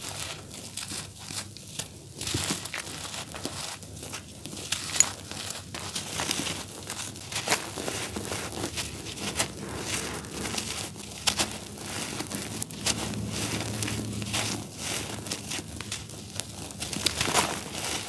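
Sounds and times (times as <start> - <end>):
charcoal crunching and crackling: 0.0 - 18.0
grit trickling onto heap: 0.1 - 18.0.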